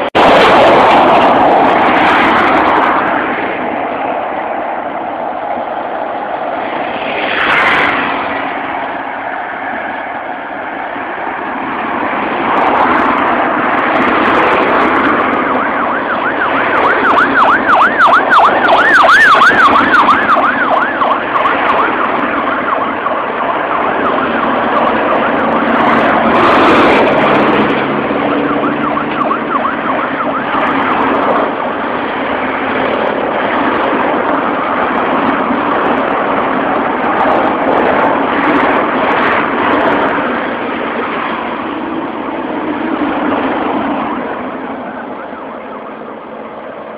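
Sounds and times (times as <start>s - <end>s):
highway traffic passing: 0.0s - 46.9s
warbling siren: 0.0s - 46.9s.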